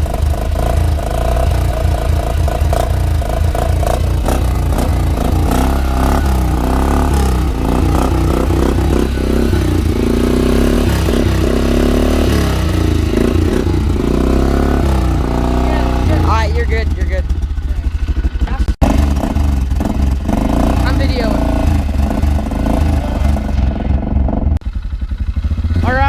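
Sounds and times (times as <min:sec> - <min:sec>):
atv engine running loud: 0:00.0 - 0:26.0.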